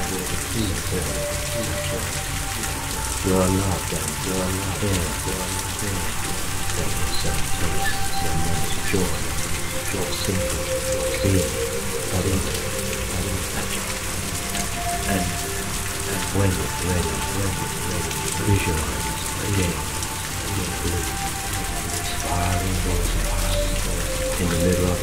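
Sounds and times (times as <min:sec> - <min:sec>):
faint held musical tones: 0:00.0 - 0:25.0
steady rain hiss: 0:00.0 - 0:25.0.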